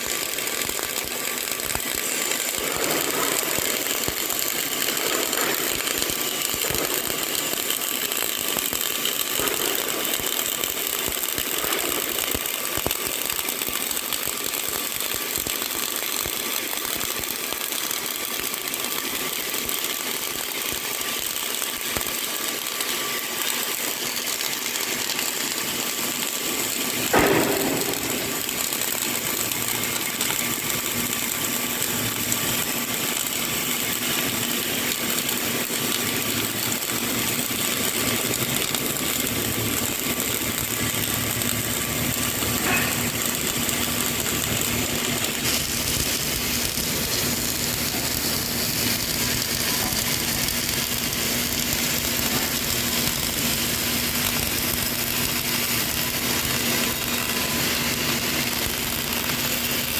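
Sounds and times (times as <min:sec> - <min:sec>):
loud welding crack: 0:00.0 - 0:59.9
welding arc crackling: 0:00.0 - 0:59.9.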